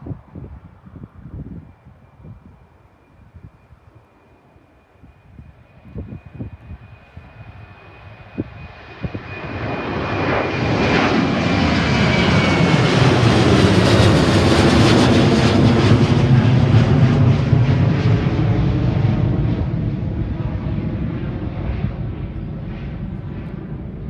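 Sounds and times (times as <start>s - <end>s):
jet engines roaring: 0.8s - 24.0s.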